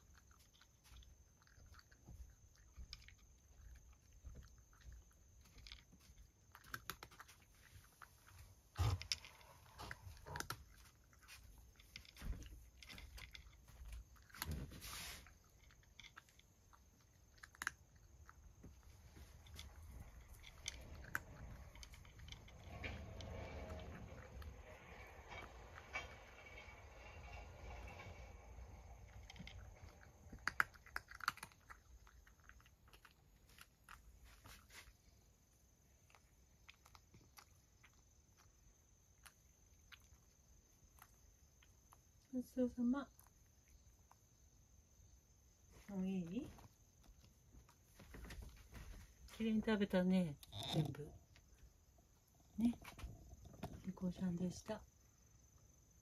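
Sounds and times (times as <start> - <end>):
cat chewing and crunching food: 0.0 - 56.0.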